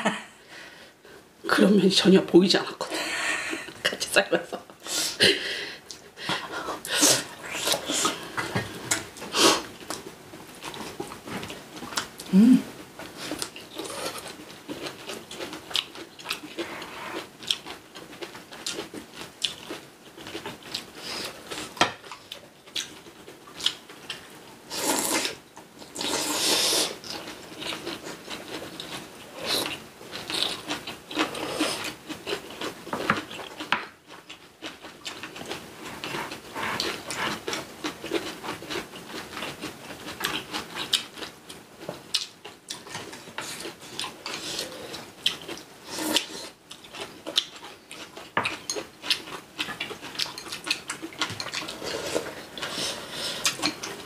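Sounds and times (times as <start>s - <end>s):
people chewing: 4.9s - 54.0s.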